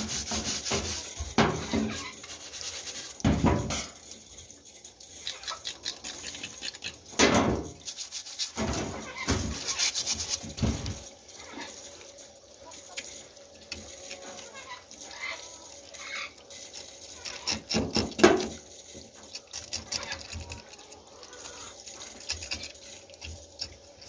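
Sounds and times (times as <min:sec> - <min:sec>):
rough scrubbing of shell: 0:00.0 - 0:04.0, 0:05.0 - 0:12.0, 0:12.9 - 0:24.0
tap water running: 0:00.0 - 0:24.0.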